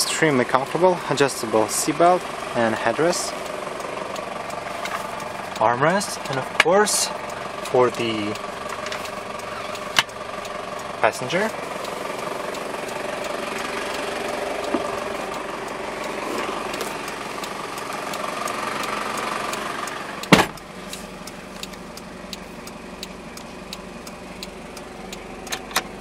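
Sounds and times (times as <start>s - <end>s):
diesel engine idling: 0.0s - 26.0s
faint regular ticking: 0.0s - 26.0s.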